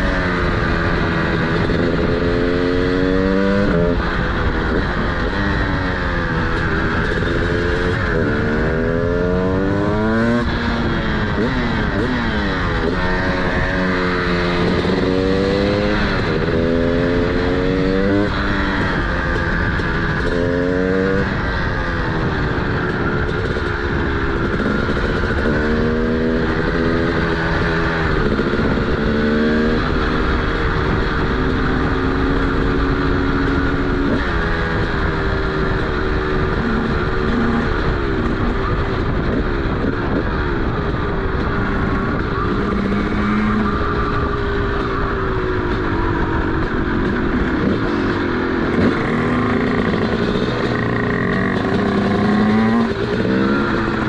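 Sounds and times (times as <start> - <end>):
two-stroke motorcycle engine accelerating: 0.0 - 54.0.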